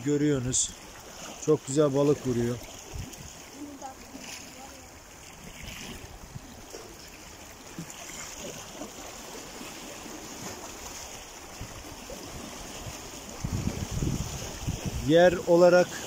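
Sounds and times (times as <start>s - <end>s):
sea waves splashing on concrete: 0.0s - 16.0s.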